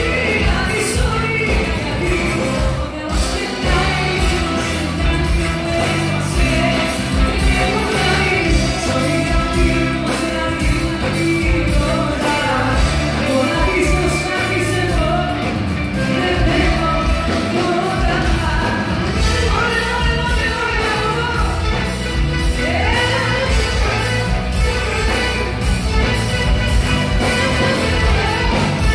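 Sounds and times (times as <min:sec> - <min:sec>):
woman singing: 0:00.0 - 0:26.0
live band playing: 0:00.0 - 0:28.9.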